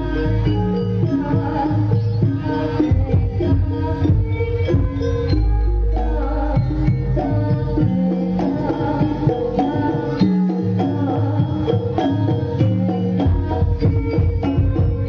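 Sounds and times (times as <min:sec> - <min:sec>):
folk dance music: 0:00.0 - 0:15.0
hand drums: 0:00.0 - 0:15.0
ringing struck percussion: 0:00.0 - 0:15.0.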